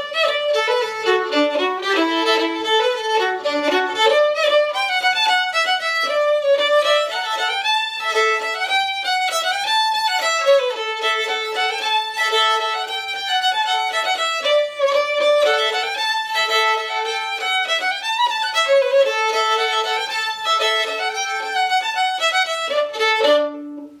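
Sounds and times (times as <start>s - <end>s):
lively fiddle tune: 0.0s - 24.0s.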